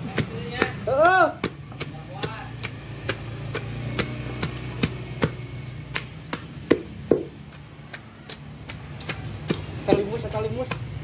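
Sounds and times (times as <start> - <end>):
wooden pestle pounding in mortar: 0.0 - 11.0.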